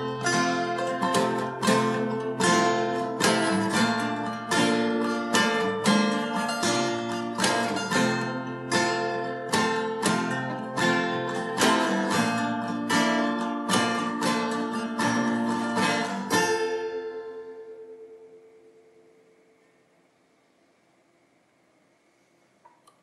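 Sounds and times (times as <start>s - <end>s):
acoustic guitars strumming: 0.0s - 19.7s.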